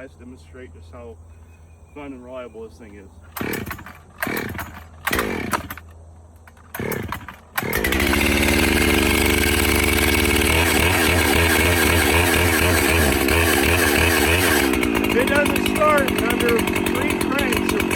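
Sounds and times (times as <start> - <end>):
chainsaw engine idling: 3.2 - 17.9
starter rope pull: 3.3 - 17.9.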